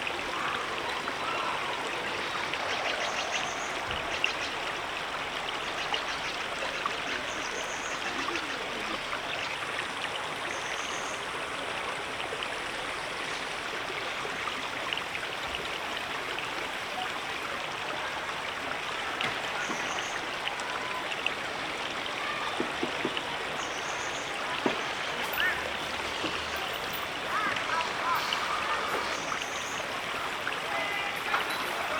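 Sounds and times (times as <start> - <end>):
river flowing: 0.0 - 31.9.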